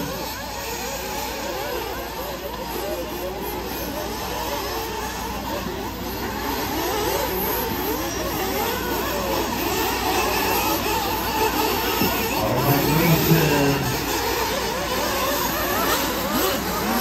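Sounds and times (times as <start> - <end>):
rc car motors whining: 0.0 - 17.0.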